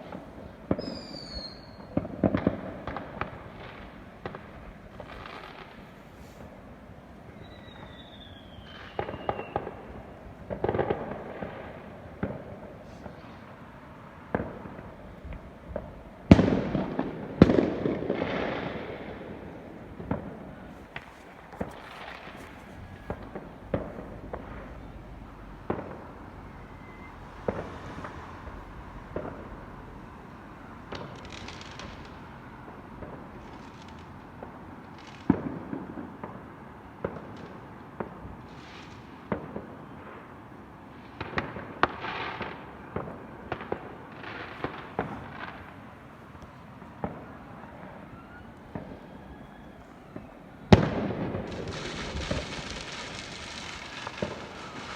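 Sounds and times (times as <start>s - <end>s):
fireworks hissing crackle: 0.0s - 48.0s, 50.1s - 54.9s
fireworks bangs: 0.0s - 54.9s.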